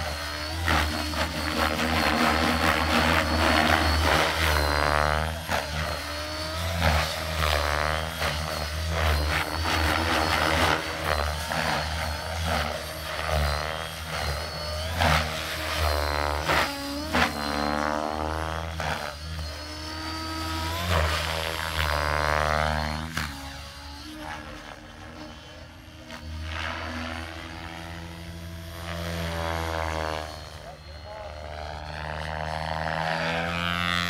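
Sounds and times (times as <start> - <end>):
model helicopter rotor drone: 0.0 - 34.0
model helicopter whine: 0.0 - 34.0.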